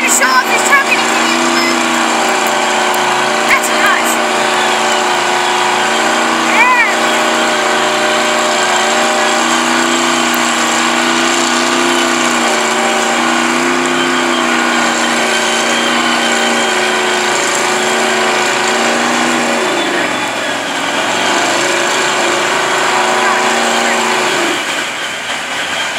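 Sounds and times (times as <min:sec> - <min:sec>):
truck engine revving high: 0:00.0 - 0:25.9.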